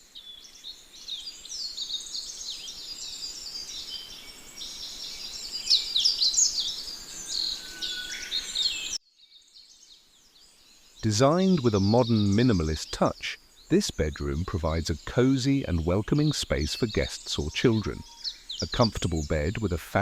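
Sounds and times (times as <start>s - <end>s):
birds chirping and twittering: 0.0s - 20.0s.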